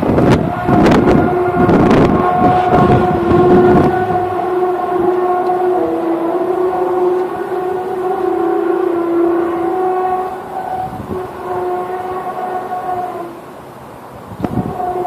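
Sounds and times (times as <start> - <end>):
loud horn-like drone: 0.0 - 15.0.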